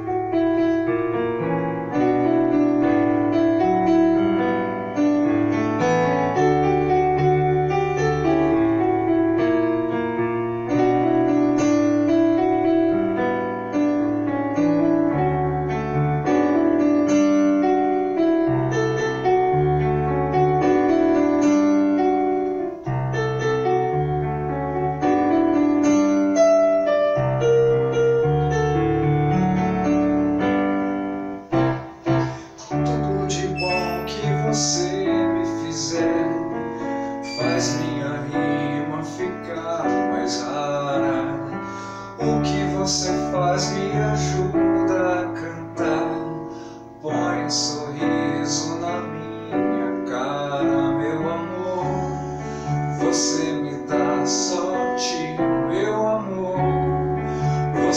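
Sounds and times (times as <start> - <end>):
digital keyboard piano instrumental: 0.0 - 57.9.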